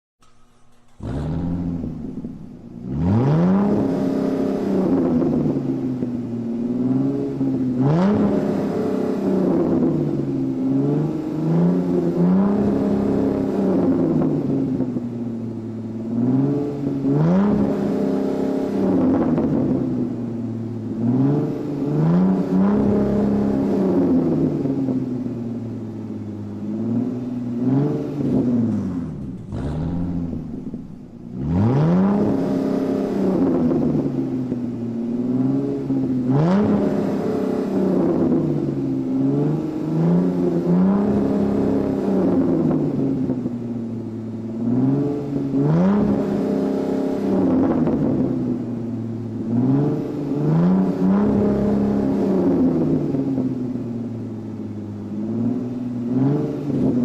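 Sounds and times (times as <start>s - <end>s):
car engine revving: 0.2s - 57.0s.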